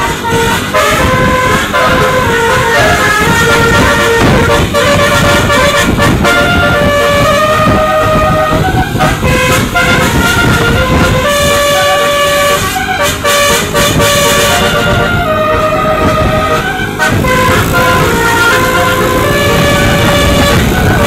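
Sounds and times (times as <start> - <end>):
bus engine rumble: 0.0 - 21.0
bus horn playing a melody: 0.0 - 21.0
traffic: 0.0 - 21.0.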